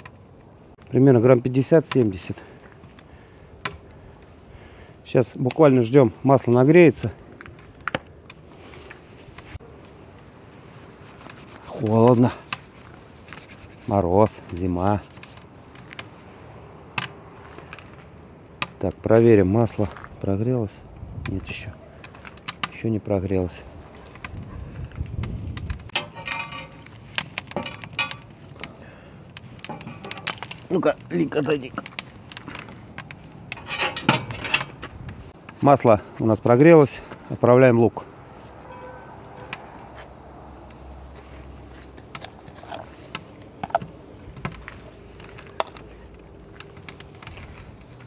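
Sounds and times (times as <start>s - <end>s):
fire popping and clicking: 0.0s - 36.2s, 38.1s - 48.0s
campfire crackling: 0.0s - 48.0s.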